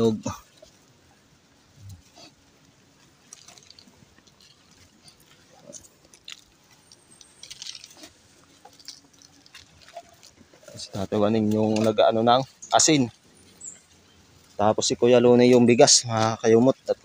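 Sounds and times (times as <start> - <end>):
faint crunches in soil: 1.6 - 17.0.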